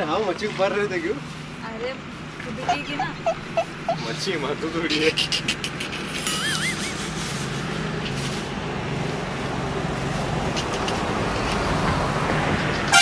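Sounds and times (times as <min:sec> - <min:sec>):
motor vehicle engine rumble: 0:00.0 - 0:13.0.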